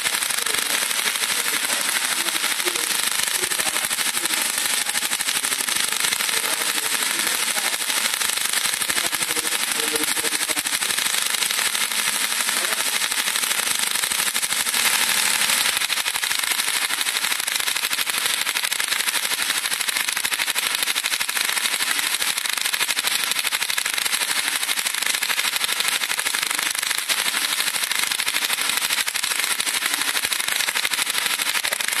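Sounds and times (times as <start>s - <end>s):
tesla coil crackling buzz: 0.0s - 32.0s.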